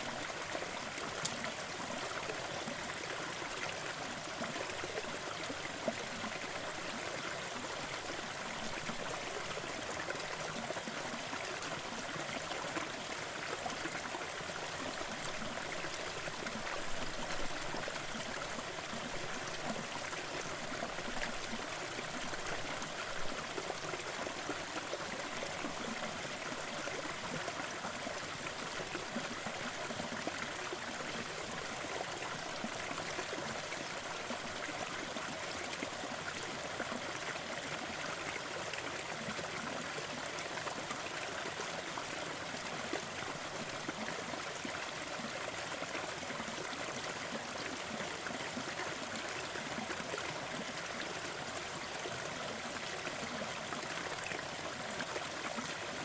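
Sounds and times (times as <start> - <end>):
waterfall and stream rushing: 0.0 - 56.0.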